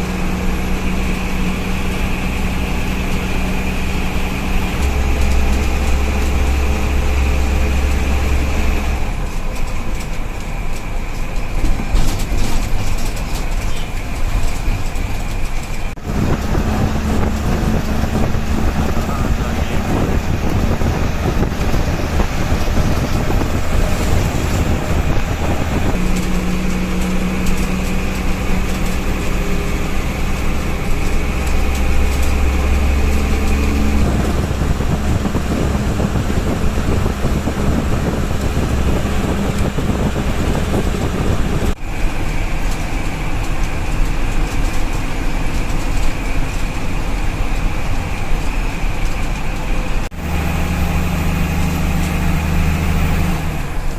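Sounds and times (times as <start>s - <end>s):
diesel bus engine running: 0.0s - 53.9s
road noise: 0.0s - 53.9s.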